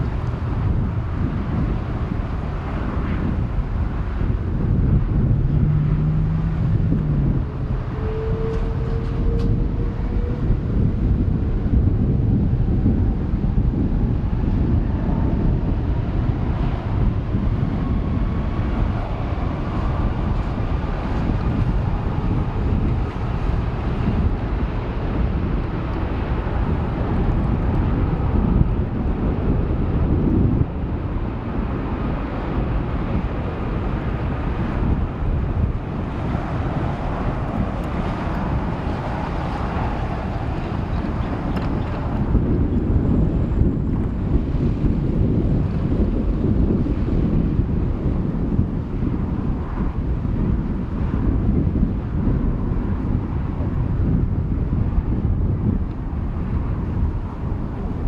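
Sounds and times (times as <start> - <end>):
jet engines rumbling: 0.0 - 58.0
wind buffeting microphone: 0.0 - 58.0.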